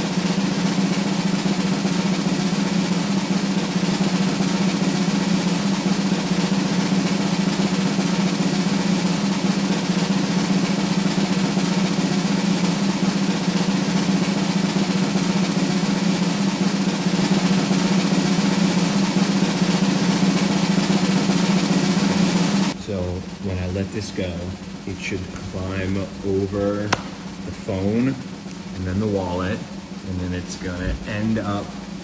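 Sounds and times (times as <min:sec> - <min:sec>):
snare drum roll: 0:00.0 - 0:32.0.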